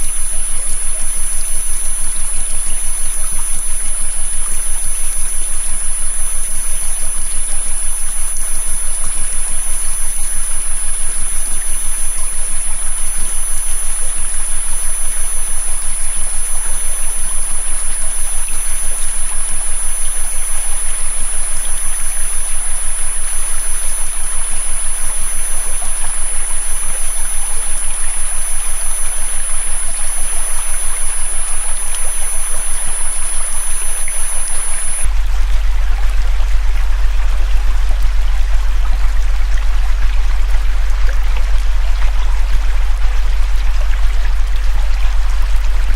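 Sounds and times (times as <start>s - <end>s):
flowing river water: 0.0s - 45.9s
high-pitched synthetic whine: 0.0s - 45.9s
low synthetic hum: 0.0s - 45.9s.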